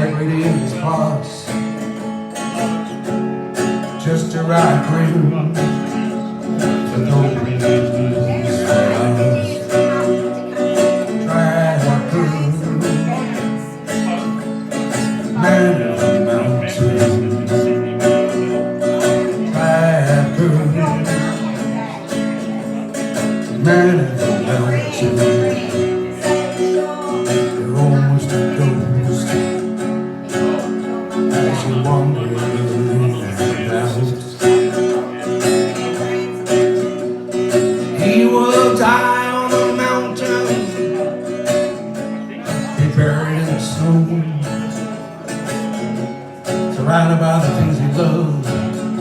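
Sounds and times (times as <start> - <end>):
country acoustic guitar: 0.0 - 49.0.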